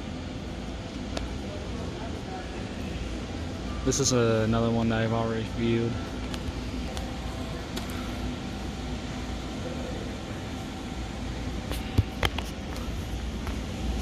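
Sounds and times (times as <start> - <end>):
warehouse low hum: 0.0 - 14.0.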